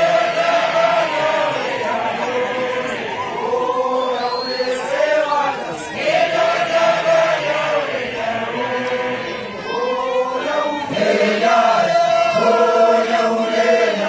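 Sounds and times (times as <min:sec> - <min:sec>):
group chanting a song: 0:00.0 - 0:14.0.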